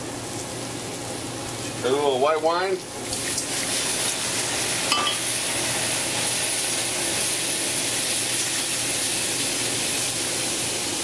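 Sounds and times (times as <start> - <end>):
wine sizzling in a skillet: 0.0 - 11.0.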